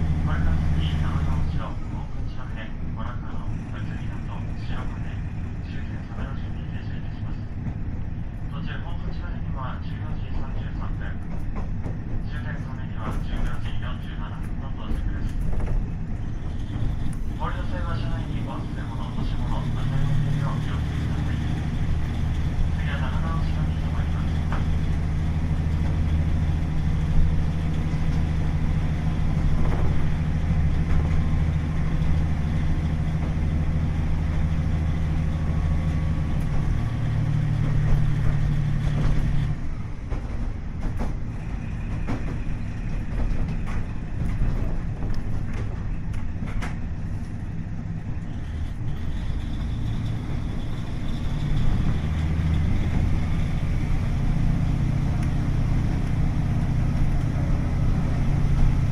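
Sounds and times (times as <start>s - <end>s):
diesel engine drone: 0.0s - 58.9s
wheels clicking on track: 0.0s - 58.9s.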